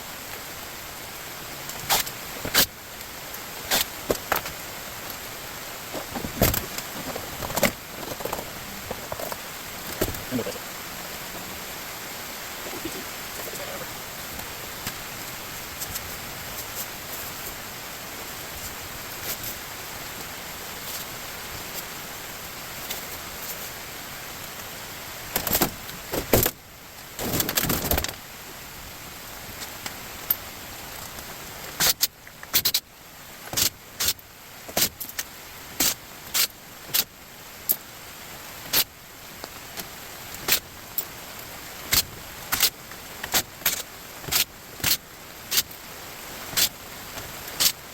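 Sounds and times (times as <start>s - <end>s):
steady hiss: 0.0s - 47.9s.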